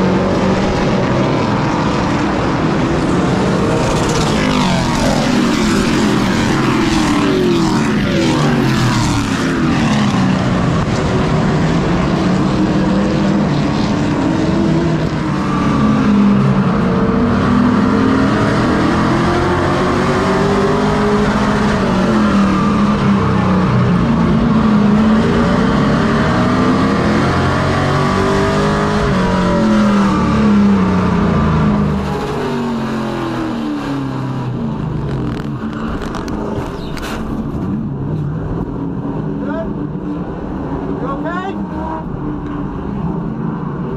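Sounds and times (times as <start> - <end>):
race truck engine revving: 0.0 - 43.9.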